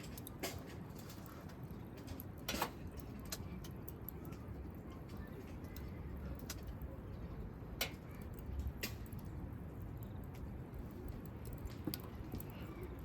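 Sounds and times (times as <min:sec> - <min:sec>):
campfire crackling: 0:00.0 - 0:13.0
fire popping: 0:00.0 - 0:13.0.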